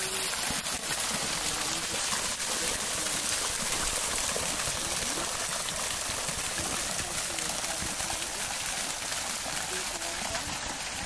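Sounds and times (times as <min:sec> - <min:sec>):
small waterfall rushing: 0:00.0 - 0:11.0.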